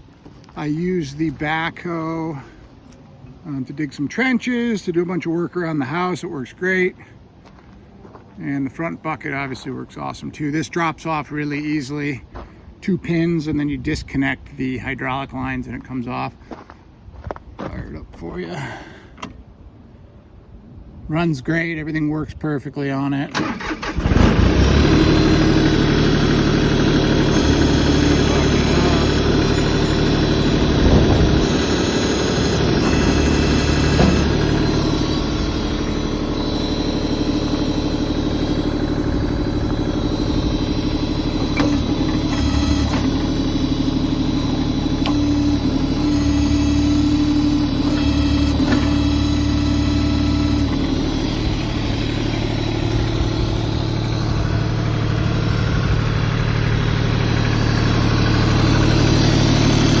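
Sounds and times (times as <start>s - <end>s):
tractor diesel engine running: 0.0s - 12.8s, 23.3s - 60.0s.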